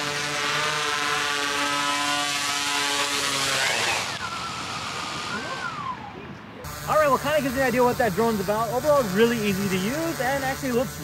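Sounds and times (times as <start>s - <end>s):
drone motors whining: 0.0s - 11.0s
drone propellers humming: 0.0s - 11.0s.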